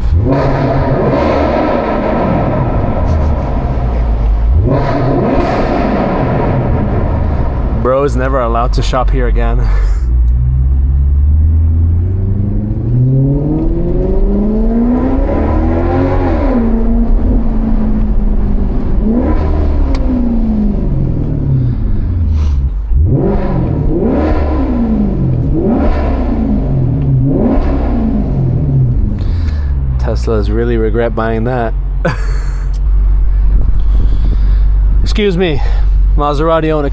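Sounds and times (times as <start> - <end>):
car engine accelerating hard: 0.0 - 31.6.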